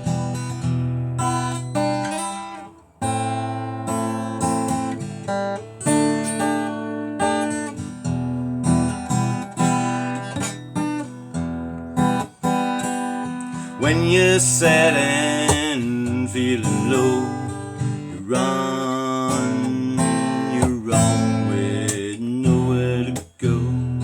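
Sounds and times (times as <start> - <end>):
acoustic guitar chords: 0.0 - 24.0.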